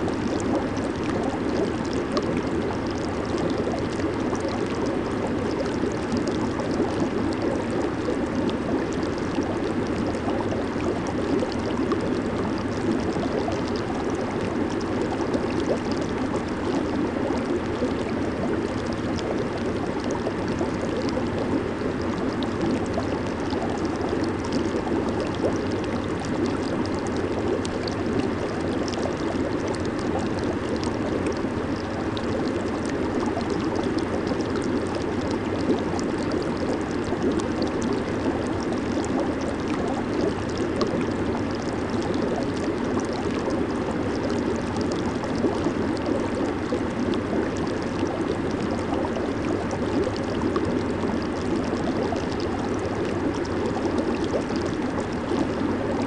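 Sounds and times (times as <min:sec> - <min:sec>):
hot tub jets bubbling water: 0:00.0 - 0:56.0.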